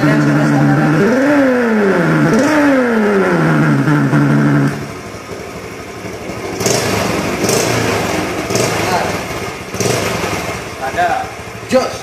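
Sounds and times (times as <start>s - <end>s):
motorcycle engine running: 0.0s - 12.0s
simulated motorcycle engine revving: 0.0s - 12.0s.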